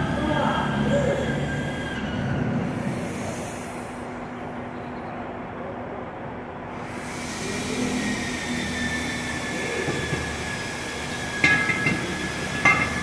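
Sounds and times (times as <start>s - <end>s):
vehicle noise: 0.0s - 13.0s.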